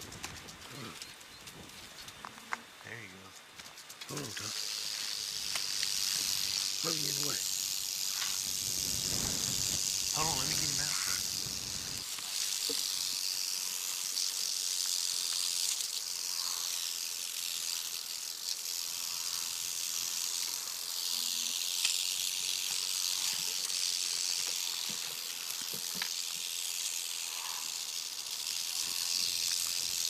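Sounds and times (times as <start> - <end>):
rattlesnake rattling: 0.0 - 30.0.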